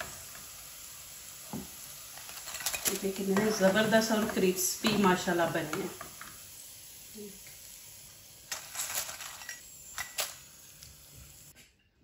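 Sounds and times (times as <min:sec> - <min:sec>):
frying oil hissing: 0:00.0 - 0:11.6.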